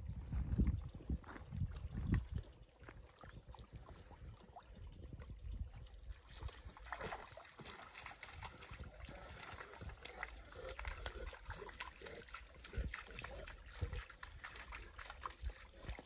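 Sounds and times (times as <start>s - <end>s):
dog wading in shallow creek water: 0.0s - 16.0s.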